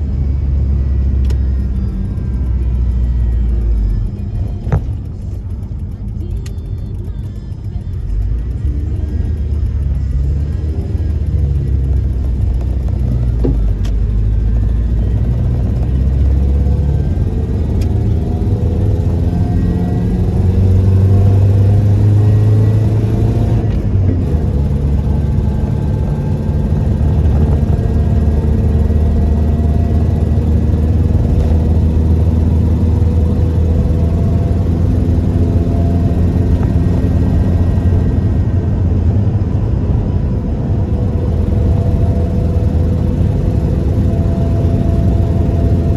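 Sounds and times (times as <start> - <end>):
pickup truck engine: 0.0 - 45.9
road noise: 0.0 - 45.9.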